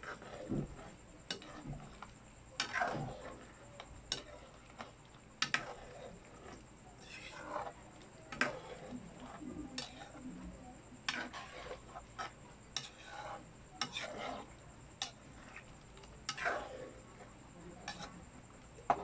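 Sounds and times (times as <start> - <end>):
spatula scraping a metal wok: 0.0 - 19.0.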